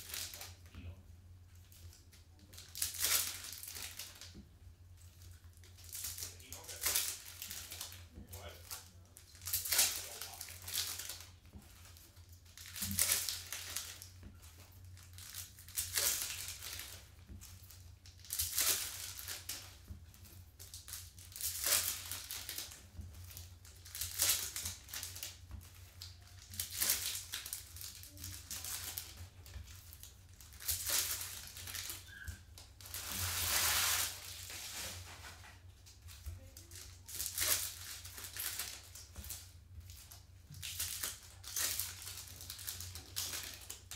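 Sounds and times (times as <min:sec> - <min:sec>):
card pack wrappers ripping open: 0:00.0 - 0:00.7, 0:01.9 - 0:04.3, 0:05.7 - 0:14.1, 0:14.9 - 0:19.8, 0:20.6 - 0:25.4, 0:26.0 - 0:34.9, 0:36.4 - 0:43.9.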